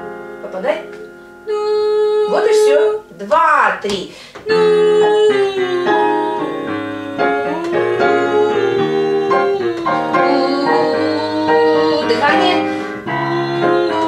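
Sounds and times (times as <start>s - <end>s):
digital piano chords: 0.0s - 3.2s, 4.4s - 14.0s
woman singing: 0.6s - 14.0s.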